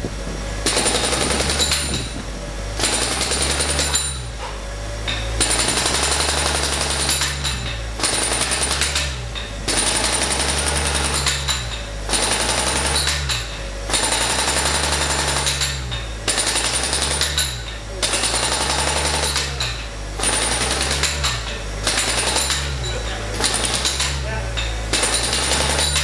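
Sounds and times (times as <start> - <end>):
steady low hum: 0.0 - 26.0
pneumatic hammer breaking concrete: 0.6 - 26.0.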